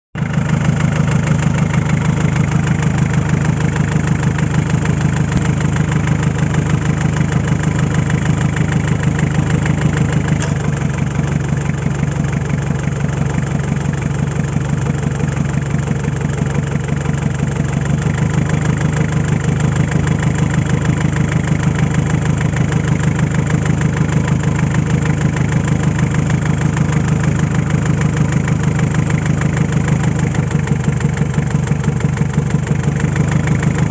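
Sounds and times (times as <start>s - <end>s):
diesel engine idling with knock: 0.2s - 33.9s.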